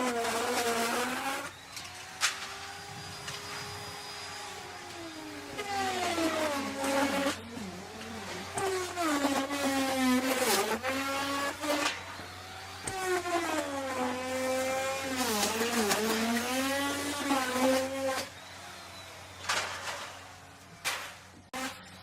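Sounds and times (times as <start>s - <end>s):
wood router cutting wood: 0.0s - 20.8s.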